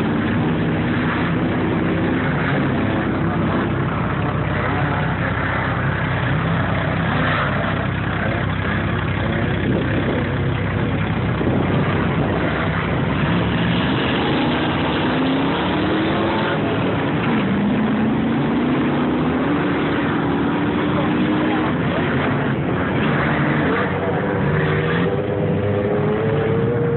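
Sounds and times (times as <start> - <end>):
dense rushing noise: 0.0 - 26.9
race car engine running hard: 0.0 - 26.9.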